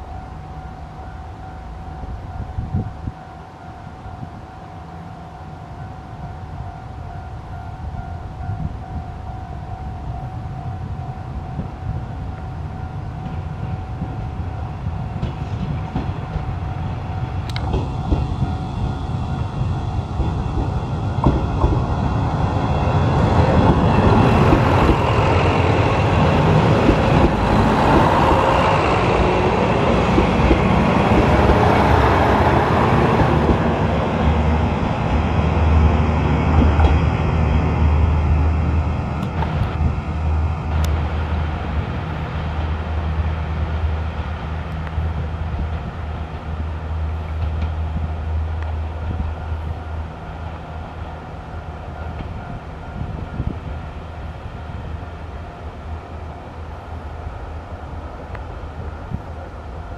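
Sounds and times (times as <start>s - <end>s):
train wheels rumbling on rails: 5.8s - 59.9s.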